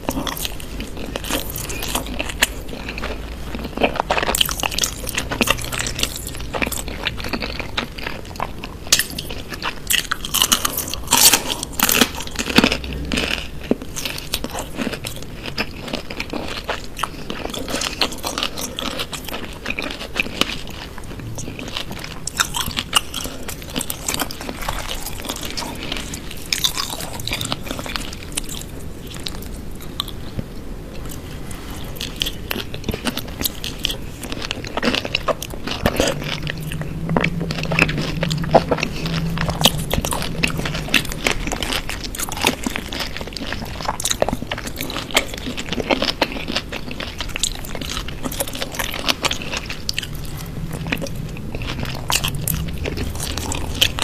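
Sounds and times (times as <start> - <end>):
crunching and chewing vegetables: 0.0 - 54.0.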